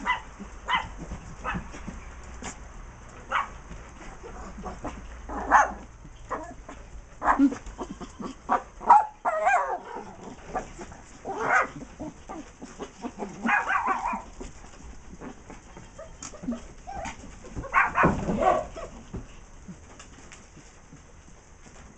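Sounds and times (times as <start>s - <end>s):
small dogs barking: 0.0s - 1.8s, 3.2s - 19.0s
paws clicking on plastic tarp: 0.0s - 21.9s.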